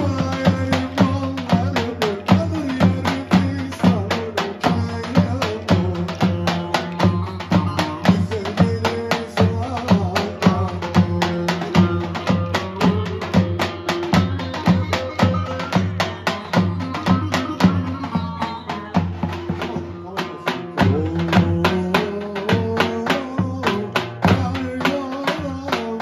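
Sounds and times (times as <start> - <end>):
drums beaten in dance rhythm: 0.0 - 26.0.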